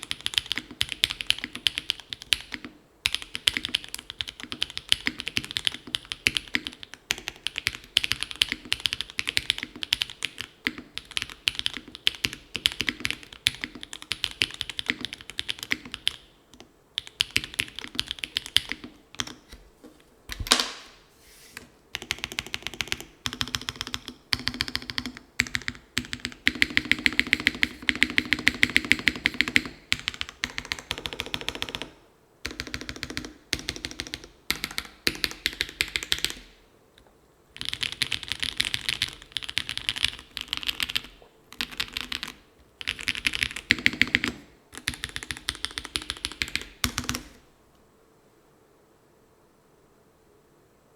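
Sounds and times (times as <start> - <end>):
mechanical keyboard typing: 0.0 - 19.4, 22.0 - 36.5, 37.6 - 47.4.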